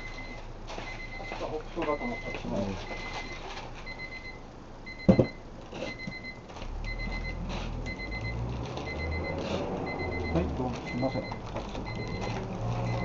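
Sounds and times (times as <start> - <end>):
electronic beeps: 1.9 - 13.0.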